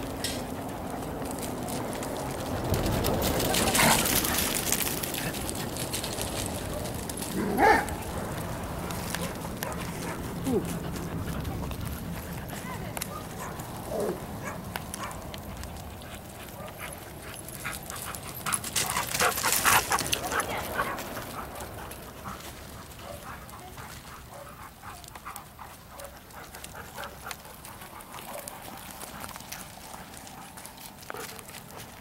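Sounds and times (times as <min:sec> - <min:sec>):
dogs barking and yipping: 0:00.0 - 0:32.0
footsteps on wood chips: 0:00.4 - 0:32.0.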